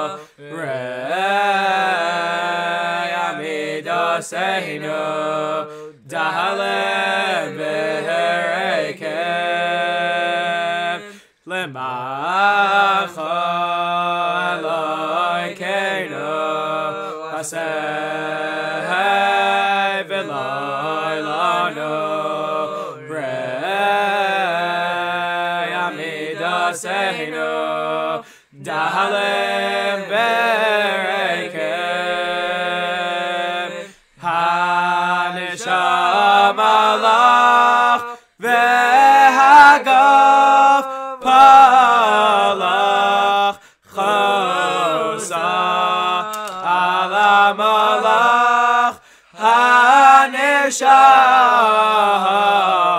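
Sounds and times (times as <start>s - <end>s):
men singing a cappella: 0.0s - 52.9s.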